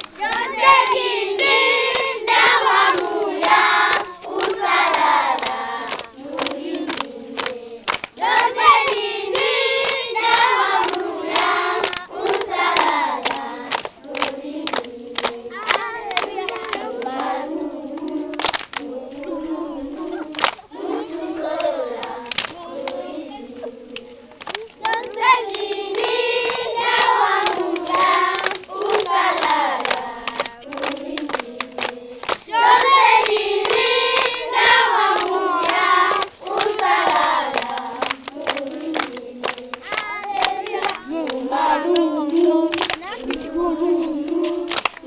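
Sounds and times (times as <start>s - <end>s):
children singing: 0.0s - 45.0s
hands clapping: 0.0s - 45.0s.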